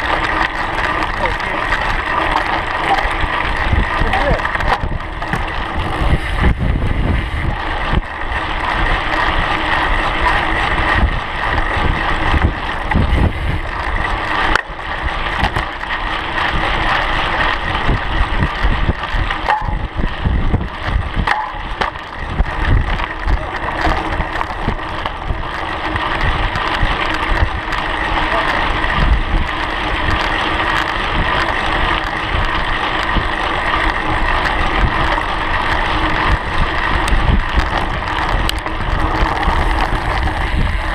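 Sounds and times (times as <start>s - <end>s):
bicycle tyres rolling on gravel: 0.0s - 40.9s
wind buffeting microphone: 0.0s - 40.9s.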